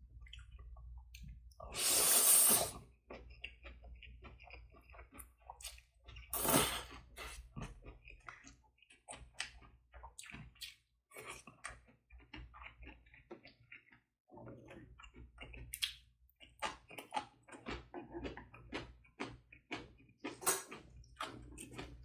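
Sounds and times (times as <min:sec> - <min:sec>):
wet chewing: 0:02.8 - 0:22.0.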